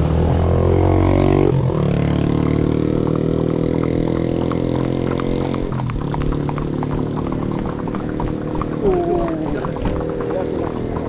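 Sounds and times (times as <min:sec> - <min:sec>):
small motorcycle engine passing: 0:00.0 - 0:11.0
horse hooves on asphalt: 0:01.4 - 0:11.0.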